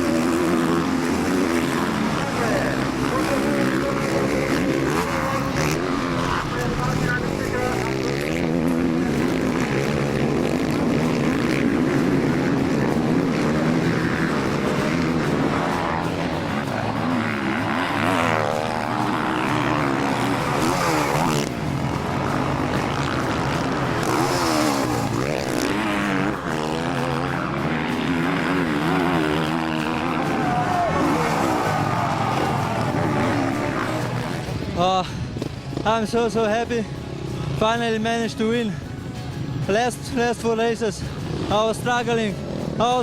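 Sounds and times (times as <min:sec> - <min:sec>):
motocross bike engines revving: 0:00.0 - 0:43.0.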